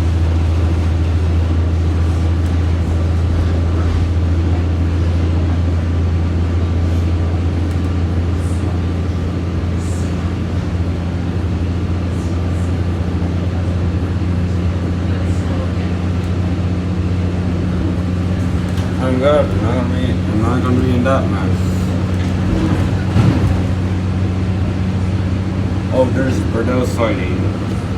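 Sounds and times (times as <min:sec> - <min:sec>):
train low drone: 0:00.0 - 0:27.9.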